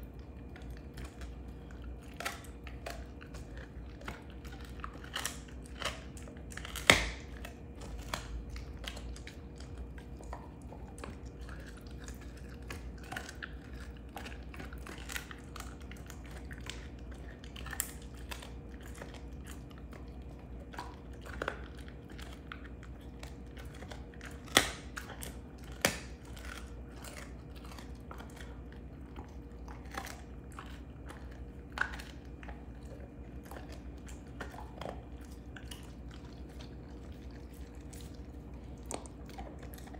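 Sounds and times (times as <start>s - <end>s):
dog crunching a bone: 0.0s - 39.9s.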